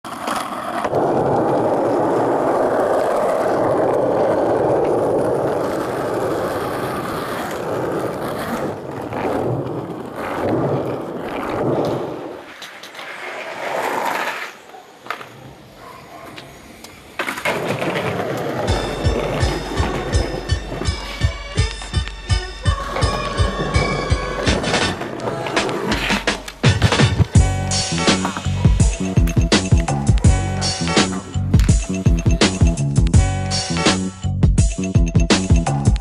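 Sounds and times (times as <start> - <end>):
skateboard wheels rolling on pavement: 0.0 - 36.0.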